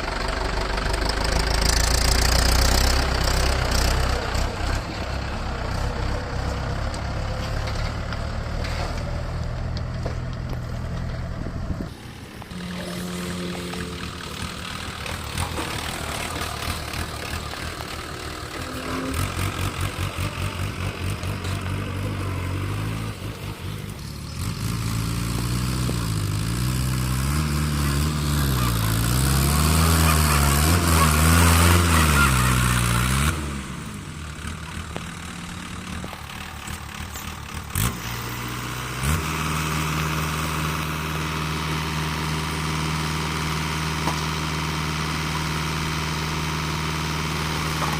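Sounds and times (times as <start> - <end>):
diesel engine revving: 0.0 - 47.9.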